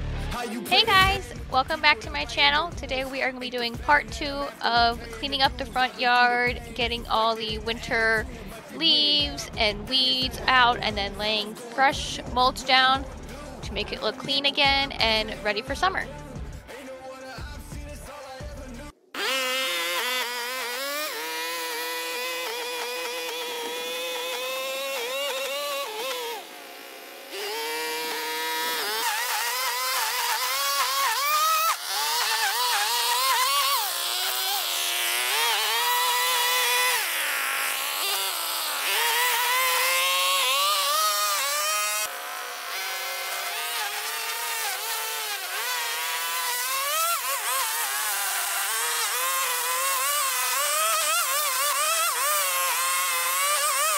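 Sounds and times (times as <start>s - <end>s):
string trimmer cutting grass: 0.0s - 16.8s, 19.0s - 53.9s.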